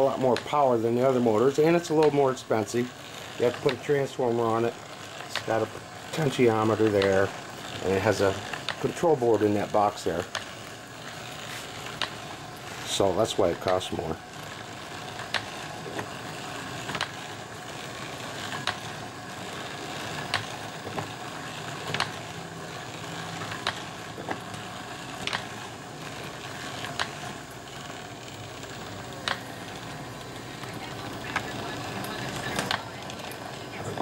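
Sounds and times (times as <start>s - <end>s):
roller chains clattering: 0.0s - 34.0s.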